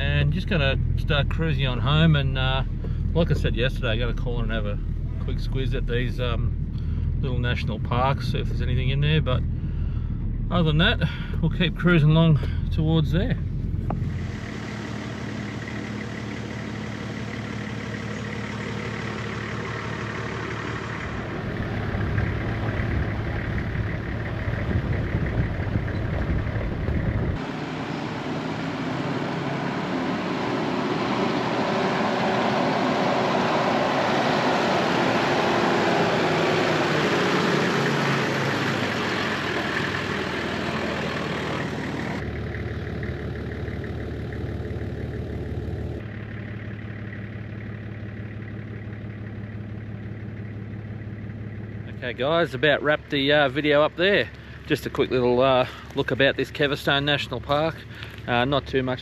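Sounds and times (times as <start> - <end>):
car engine humming: 0.0 - 59.0.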